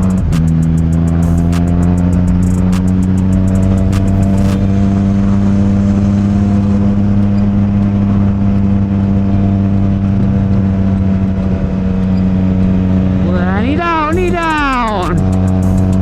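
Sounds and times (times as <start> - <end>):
motorcycle engine cruising: 0.0 - 16.0
road and wind noise: 0.0 - 16.0.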